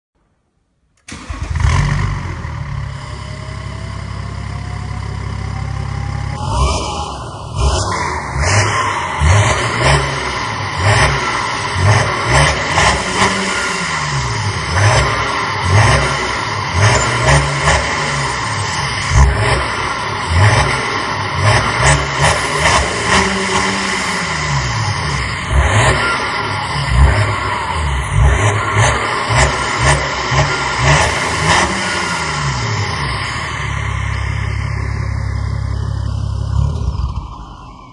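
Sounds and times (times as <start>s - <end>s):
diesel engine starting and idling: 1.0s - 37.9s
engine revving in throttle blips: 1.1s - 37.6s.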